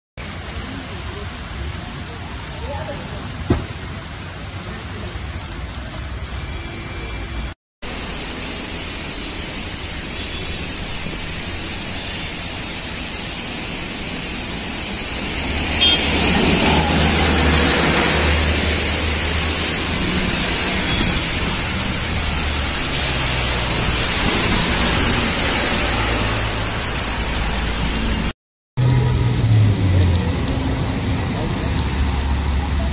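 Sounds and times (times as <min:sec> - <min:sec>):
heavy rain on wet road: 0:00.2 - 0:32.9
traffic rumble on wet road: 0:00.2 - 0:32.9.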